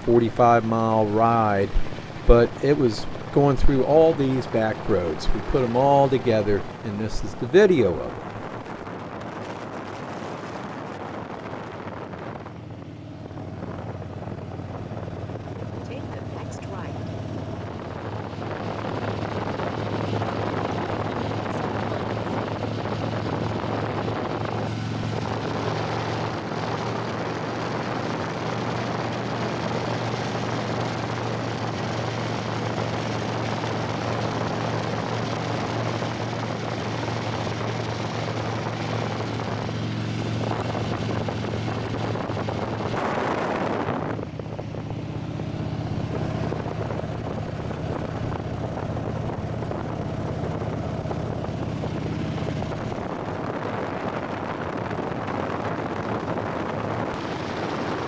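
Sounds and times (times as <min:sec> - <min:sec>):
motorcycle engine running: 0:00.0 - 0:10.5, 0:11.3 - 0:58.0
wind and road rush: 0:00.0 - 0:58.0.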